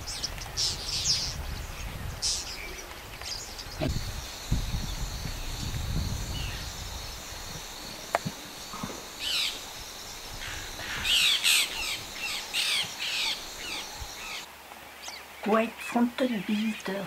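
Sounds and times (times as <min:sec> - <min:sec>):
wild birds calling: 0:00.0 - 0:17.0.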